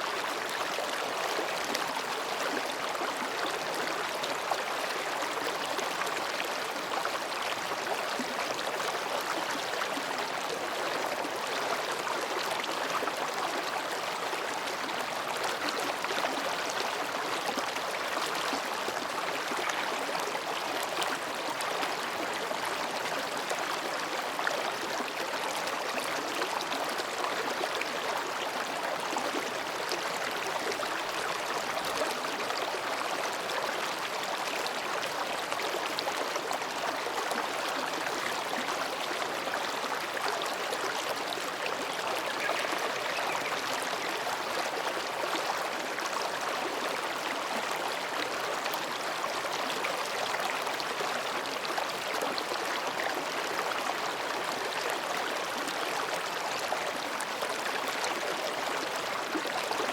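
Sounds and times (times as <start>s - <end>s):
stream babbling over rocks: 0.0s - 59.9s.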